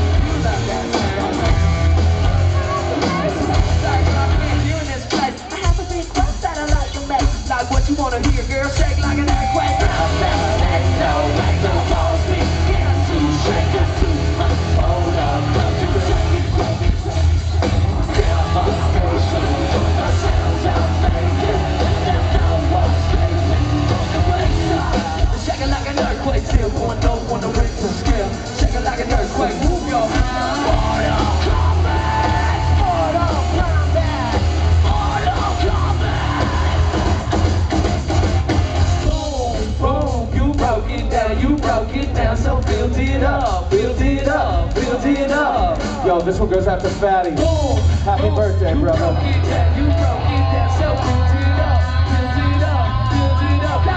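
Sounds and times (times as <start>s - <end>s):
lead vocal singing and yelling: 0.0s - 53.9s
live rock band playing: 0.0s - 53.9s.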